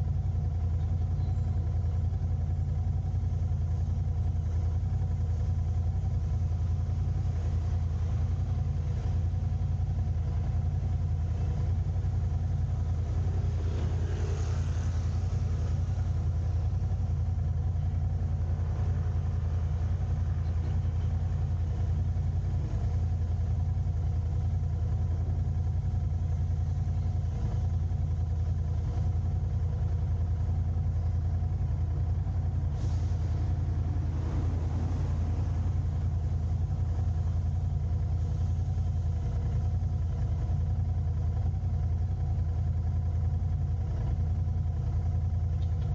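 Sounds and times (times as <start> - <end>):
car engine and road noise: 0.0 - 45.9.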